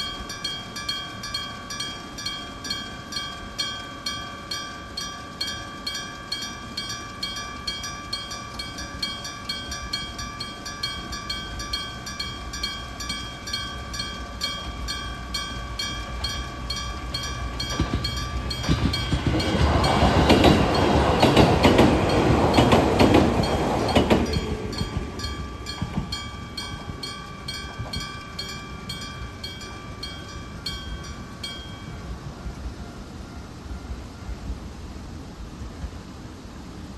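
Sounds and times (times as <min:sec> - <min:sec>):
level crossing bell ringing: 0:00.0 - 0:34.2
train rumble and wheel clatter: 0:00.0 - 0:36.9.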